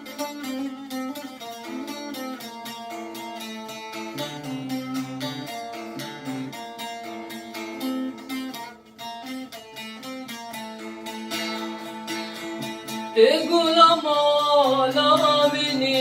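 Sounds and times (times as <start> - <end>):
plucked string instruments playing: 0.0 - 16.0.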